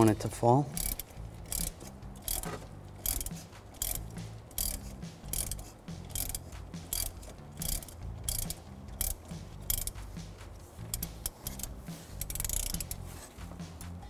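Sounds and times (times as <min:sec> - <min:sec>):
ratchet pawl clicking: 0:00.7 - 0:10.1, 0:10.8 - 0:13.1.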